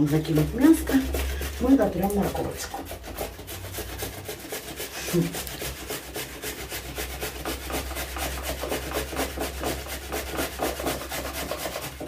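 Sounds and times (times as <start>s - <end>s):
carrot grated on a grater: 0.0s - 12.0s.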